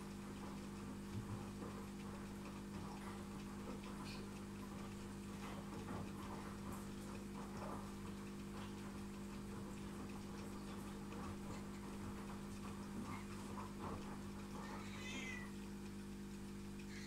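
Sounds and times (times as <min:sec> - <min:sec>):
aquarium pump electrical hum: 0:00.0 - 0:17.0.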